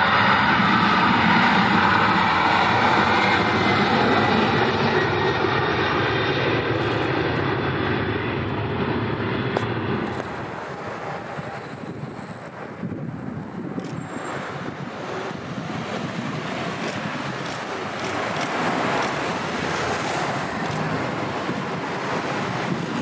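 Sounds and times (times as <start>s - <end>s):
jet engines at take-off: 0.0s - 23.0s.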